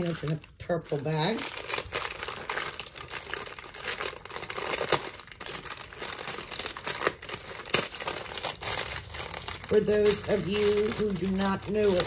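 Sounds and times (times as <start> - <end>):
packaging rustling and crackling: 0.0 - 12.0.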